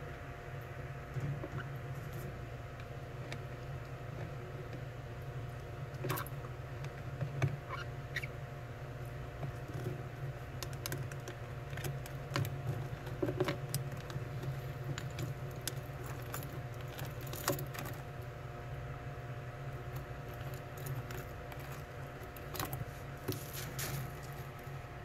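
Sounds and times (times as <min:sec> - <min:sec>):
steady low hum: 0:00.0 - 0:25.0
crab legs clicking and scratching: 0:01.2 - 0:08.3, 0:09.3 - 0:18.3, 0:19.6 - 0:24.8.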